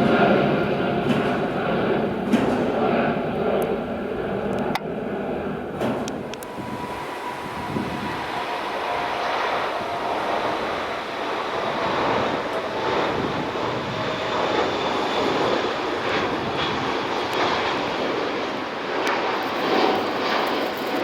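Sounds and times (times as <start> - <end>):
jet engines roaring at takeoff: 0.0 - 21.0.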